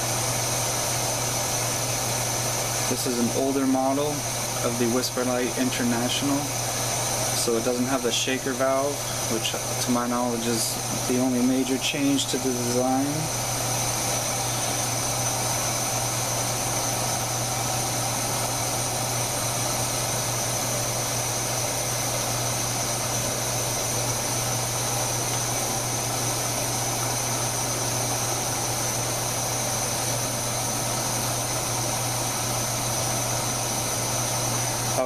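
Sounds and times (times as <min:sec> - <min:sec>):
stove burner rushing: 0:00.0 - 0:35.0.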